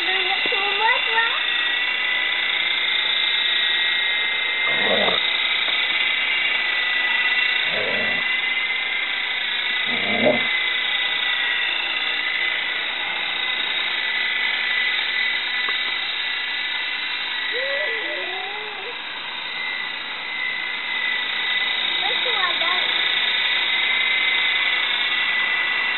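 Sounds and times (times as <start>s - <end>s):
rc helicopter high-pitched whine: 0.0s - 25.9s.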